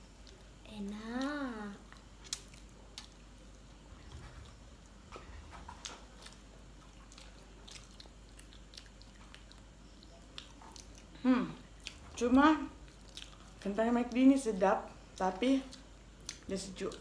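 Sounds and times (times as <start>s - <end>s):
people chewing: 0.0s - 14.3s.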